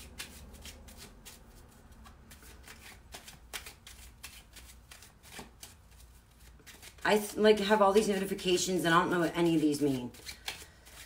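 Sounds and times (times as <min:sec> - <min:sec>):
cards being shuffled by hand: 0:00.0 - 0:08.4, 0:09.4 - 0:11.0.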